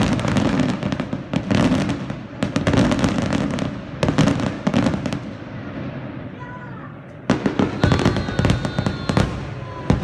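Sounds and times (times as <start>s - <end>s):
fireworks crackling and bangs: 0.0s - 10.0s.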